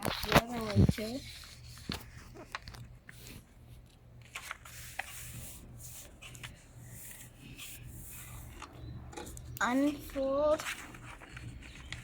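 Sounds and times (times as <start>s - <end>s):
paper folding and creasing: 0.0s - 12.0s.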